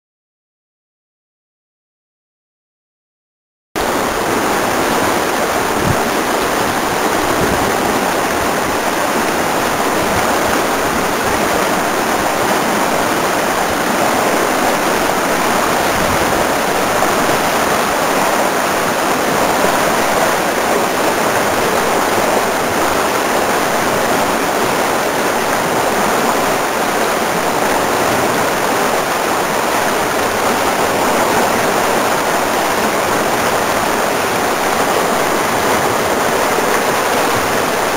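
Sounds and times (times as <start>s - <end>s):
whitewater rushing through rapids: 3.8s - 37.9s.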